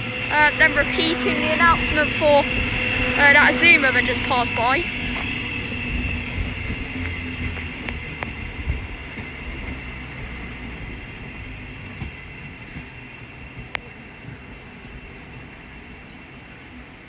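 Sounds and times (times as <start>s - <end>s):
high-pitched whine: 0.0s - 17.0s
train low rumble: 0.0s - 17.0s.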